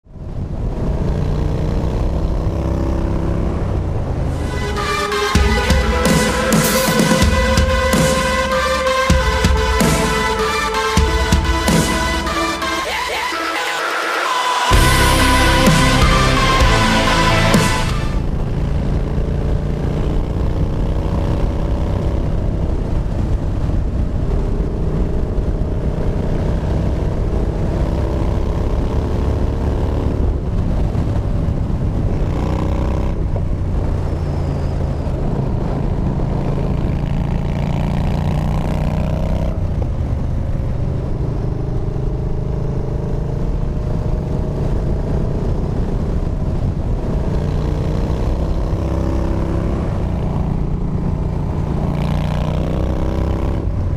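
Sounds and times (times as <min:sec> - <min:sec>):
motorcycle engine revving: 0:00.3 - 0:12.6, 0:14.7 - 0:53.9.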